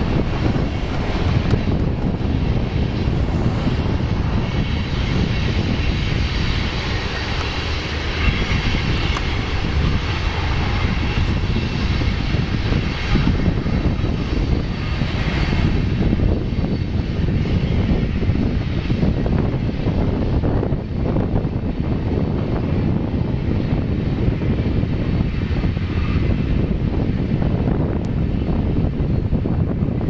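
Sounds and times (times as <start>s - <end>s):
distant freight train rumbling: 0.0s - 30.0s.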